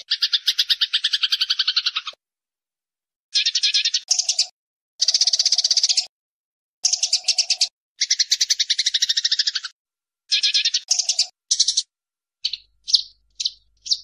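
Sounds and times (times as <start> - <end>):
sparrows chattering chirps: 0.0 - 2.2, 3.3 - 6.1, 6.8 - 14.0.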